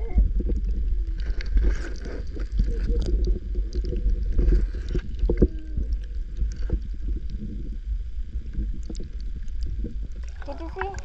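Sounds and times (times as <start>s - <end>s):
deep low rumble: 0.0s - 11.0s.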